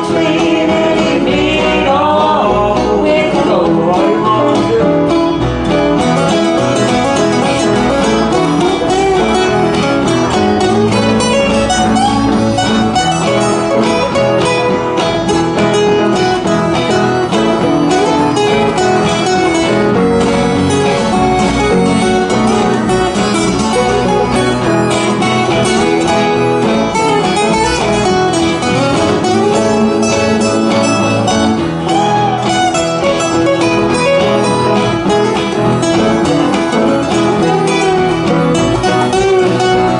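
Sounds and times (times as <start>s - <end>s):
acoustic guitars strumming: 0.0s - 39.9s
banjo: 0.0s - 39.9s
harmonica: 4.4s - 39.9s.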